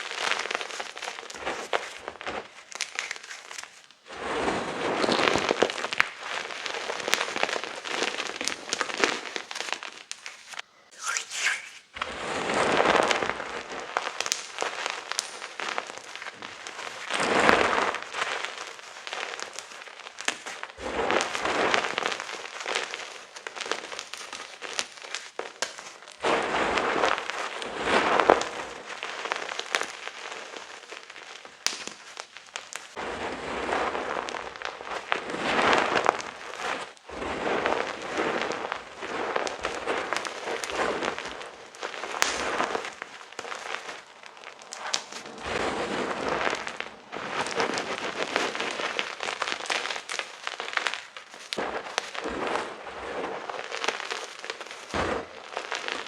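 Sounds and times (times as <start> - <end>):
chalk being crushed: 0.0 - 56.0.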